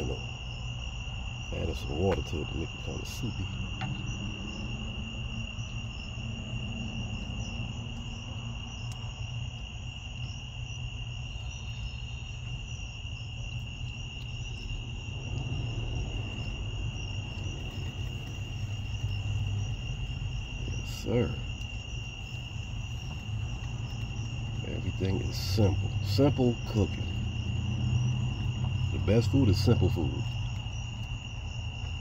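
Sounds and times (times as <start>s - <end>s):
insects trilling: 0.0s - 32.0s
low steady rumble: 0.0s - 32.0s.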